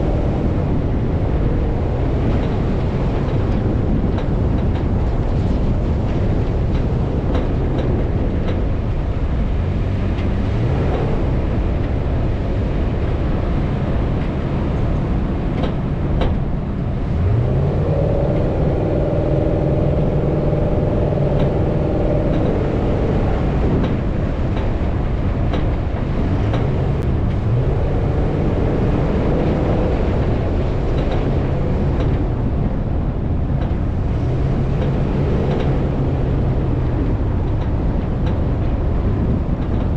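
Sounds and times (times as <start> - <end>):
off-road vehicle engine revving: 0.0 - 39.9
wind rumble: 0.0 - 39.9.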